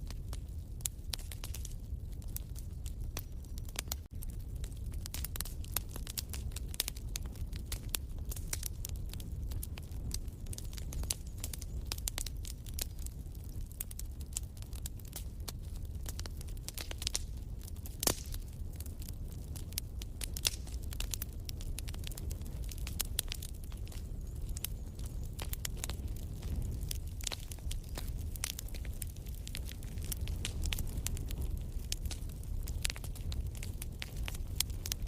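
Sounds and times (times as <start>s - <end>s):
fireplace fire crackling: 0.0s - 35.0s.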